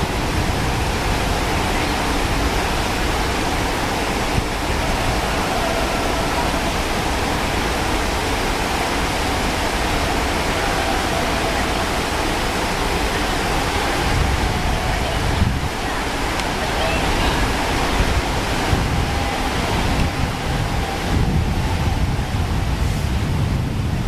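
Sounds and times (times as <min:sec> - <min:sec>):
stream rapids rushing over rocks: 0:00.0 - 0:24.0.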